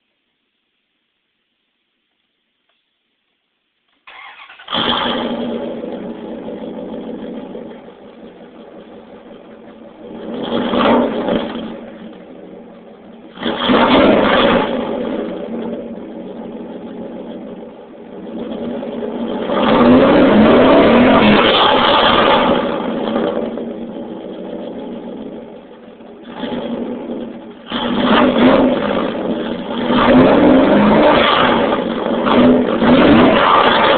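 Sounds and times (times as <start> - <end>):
truck engine idling and revving: 4.0 - 33.9.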